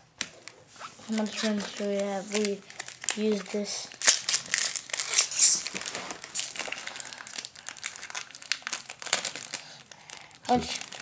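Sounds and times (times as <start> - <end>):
foil wrappers crinkling: 0.4 - 11.0.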